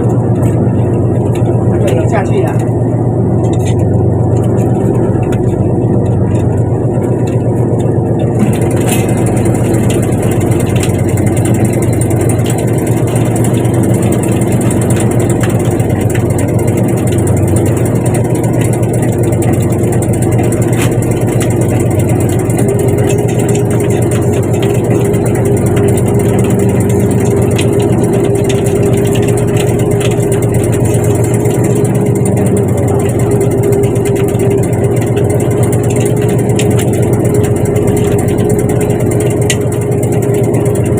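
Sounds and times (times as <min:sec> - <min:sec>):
boat engine humming: 0:00.0 - 0:40.9.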